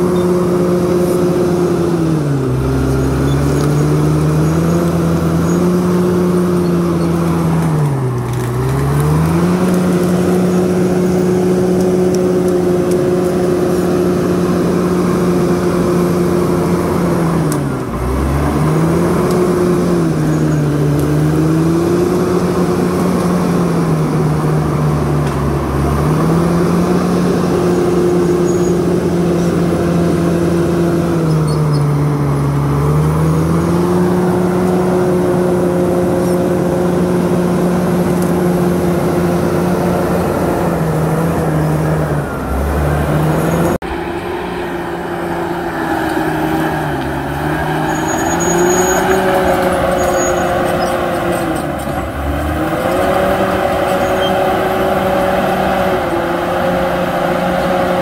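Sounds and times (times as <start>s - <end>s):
blade pushing earth and brush: 0.0s - 58.0s
bulldozer diesel engine running hard: 0.0s - 58.0s.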